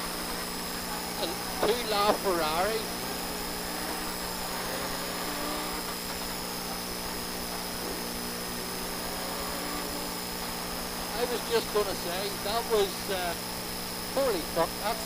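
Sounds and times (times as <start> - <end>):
car engine at steady revs: 0.0 - 15.0.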